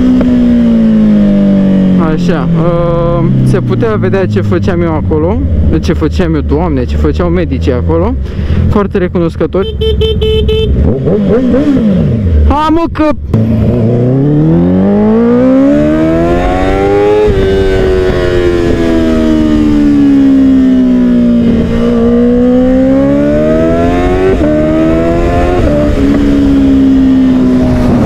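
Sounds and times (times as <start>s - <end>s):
motorcycle engine revving and shifting: 0.0s - 8.0s, 9.8s - 12.7s, 13.3s - 28.0s.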